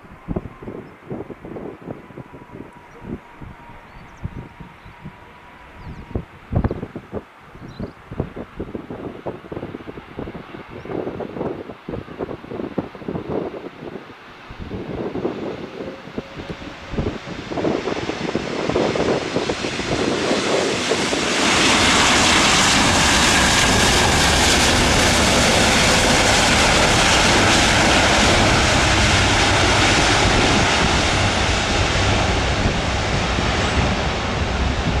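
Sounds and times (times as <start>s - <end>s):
jet engines: 0.0s - 35.0s.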